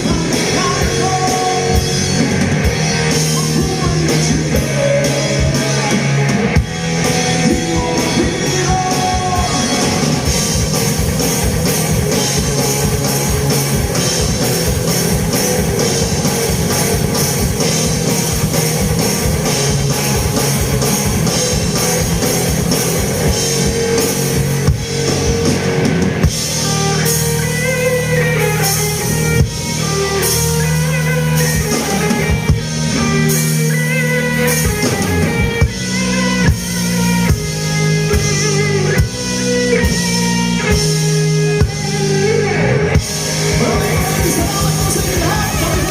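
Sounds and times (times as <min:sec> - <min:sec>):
drum kit beat: 0:00.0 - 0:45.9
electric guitar: 0:00.0 - 0:45.9.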